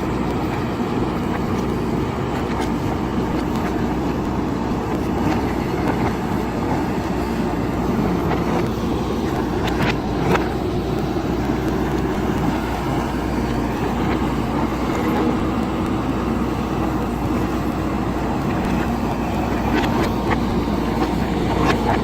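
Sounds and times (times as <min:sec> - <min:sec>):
diesel engine under load: 0:00.0 - 0:22.0.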